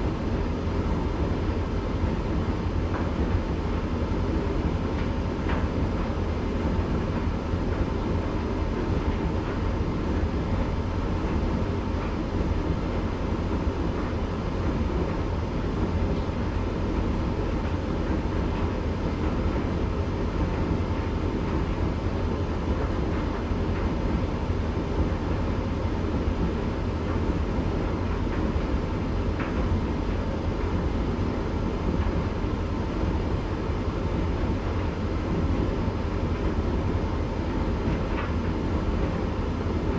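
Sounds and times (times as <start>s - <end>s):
faint steady hum: 0.0s - 39.9s
tumble dryer drum rumbling: 0.0s - 39.9s.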